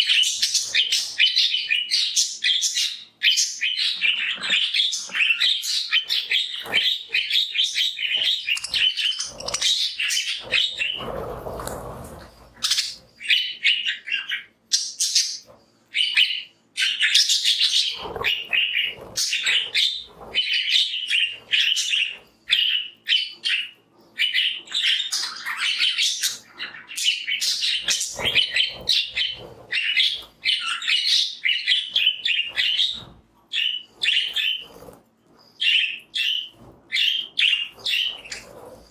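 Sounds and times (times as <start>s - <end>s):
budgerigars chirping: 0.0s - 11.8s, 12.4s - 38.9s.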